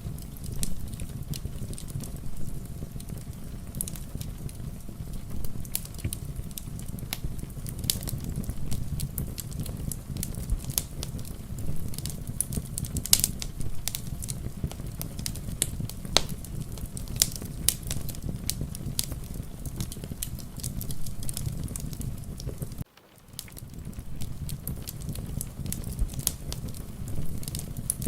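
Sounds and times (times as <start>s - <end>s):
wood fire crackling in a fireplace: 0.0s - 28.0s.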